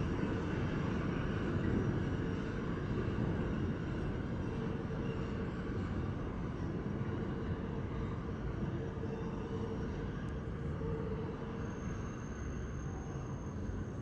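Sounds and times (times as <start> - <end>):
subway train wheels rumbling on rail: 0.0 - 14.0.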